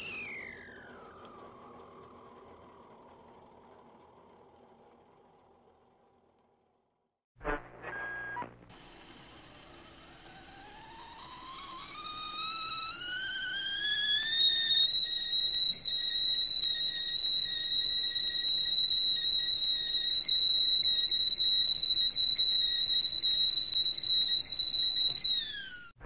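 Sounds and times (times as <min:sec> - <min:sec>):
tea kettle whistling: 0:00.0 - 0:06.6, 0:07.8 - 0:26.0.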